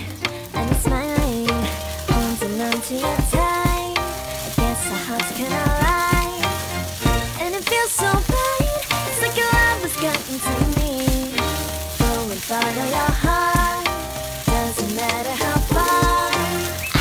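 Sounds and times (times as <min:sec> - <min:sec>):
food sizzling in a pan: 0:00.0 - 0:17.0
instrumental pop music: 0:00.0 - 0:17.0.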